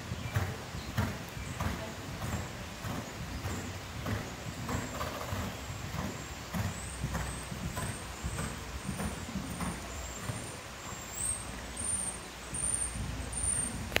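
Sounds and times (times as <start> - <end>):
horse hoofbeats on sand: 0.0 - 14.0.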